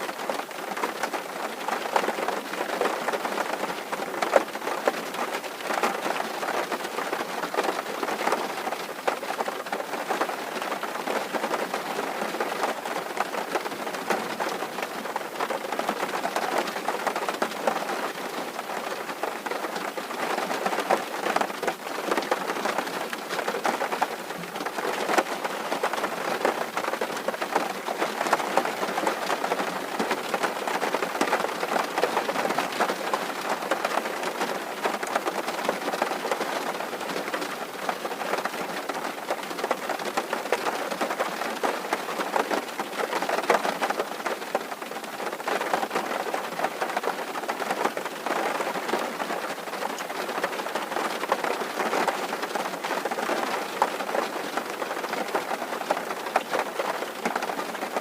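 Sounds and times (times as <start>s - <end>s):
rain drumming on a tin roof: 0.0s - 58.0s.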